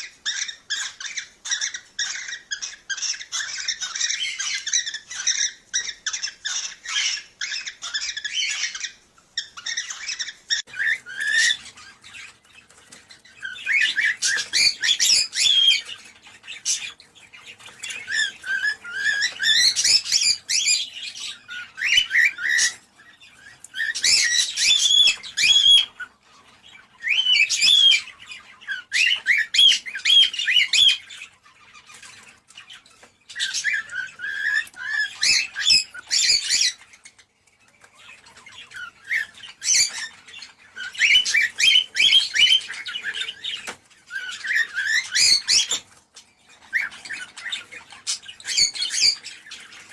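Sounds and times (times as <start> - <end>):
cockatiels chirping and warbling: 0.0 - 49.9.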